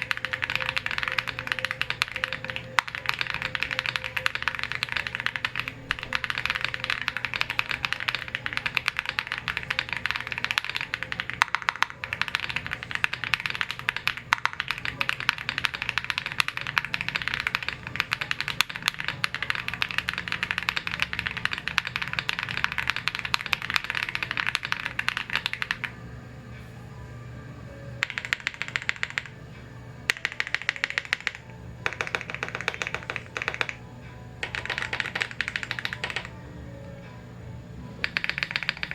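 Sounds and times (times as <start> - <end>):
mechanical keyboard typing: 0.0 - 26.0, 28.0 - 29.4, 30.1 - 33.8, 34.4 - 36.4, 38.0 - 38.9.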